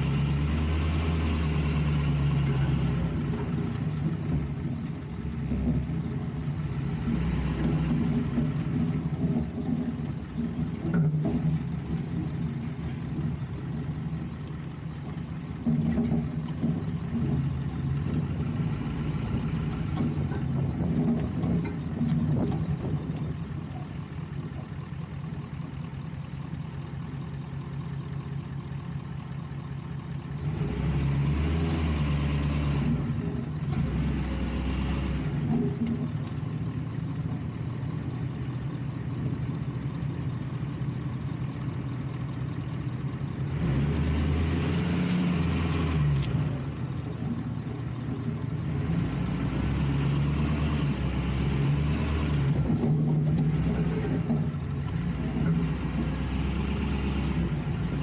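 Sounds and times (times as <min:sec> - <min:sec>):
truck engine droning: 0:00.0 - 0:58.0.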